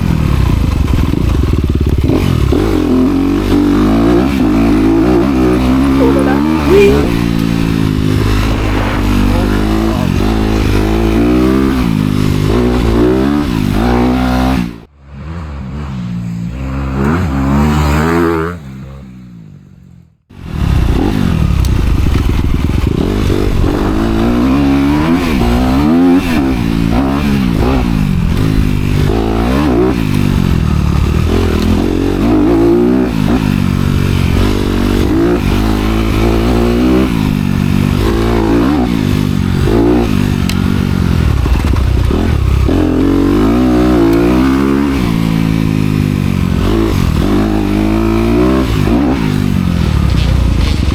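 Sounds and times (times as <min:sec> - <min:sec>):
dirt bike engine revving: 0:00.0 - 0:19.7, 0:20.3 - 0:50.9.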